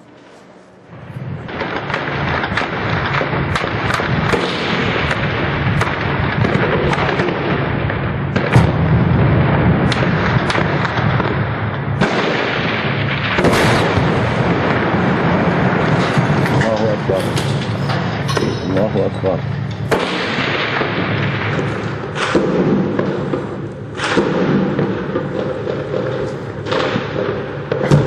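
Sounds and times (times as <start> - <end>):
heavy gunfire: 0.9 - 28.0.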